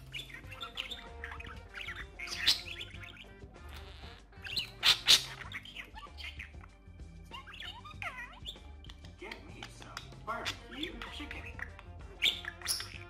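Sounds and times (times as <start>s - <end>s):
budgie chirping and chattering: 0.0s - 13.0s
loud sharp budgie chirps: 0.0s - 13.0s
soft background music: 0.0s - 13.0s.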